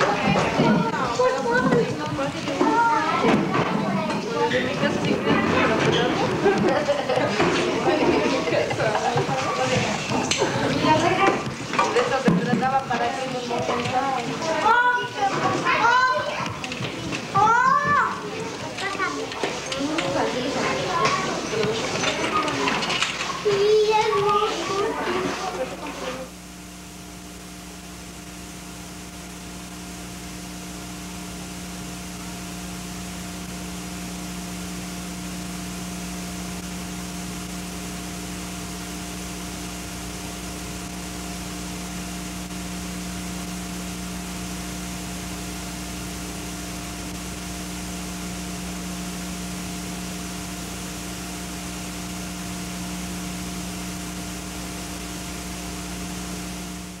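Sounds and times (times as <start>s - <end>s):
videotape hiss and hum: 0.0s - 57.0s.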